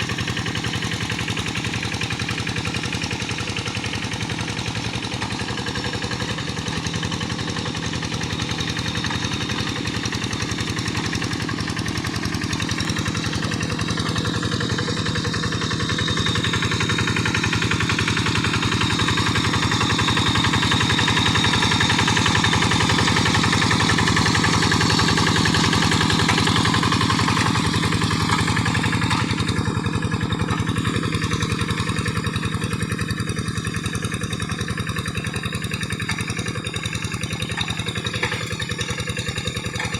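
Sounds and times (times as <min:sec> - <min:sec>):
hand tractor engine chugging: 0:00.0 - 0:39.9.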